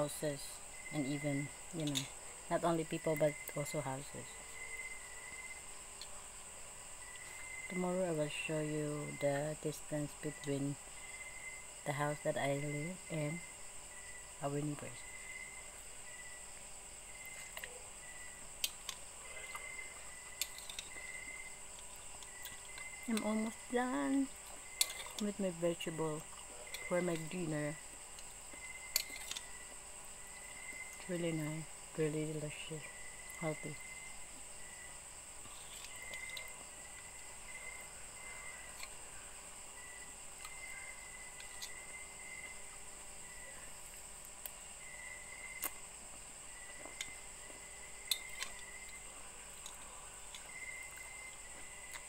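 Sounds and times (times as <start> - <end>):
faint high-pitched background: 0.0 - 52.0
insect buzz: 0.0 - 52.0.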